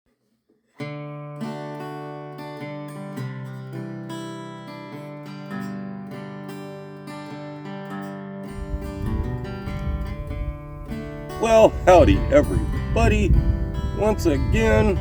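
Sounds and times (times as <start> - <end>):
acoustic guitar music: 0.7 - 15.0.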